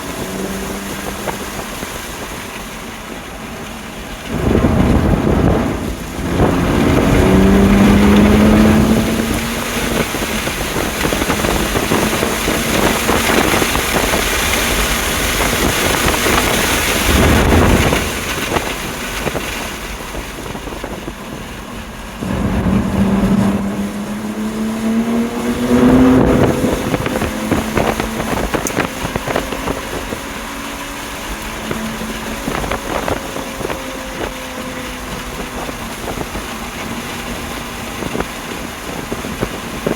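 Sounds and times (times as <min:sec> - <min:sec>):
car engine accelerating hard: 0:00.0 - 0:39.9
wind noise: 0:00.0 - 0:39.9.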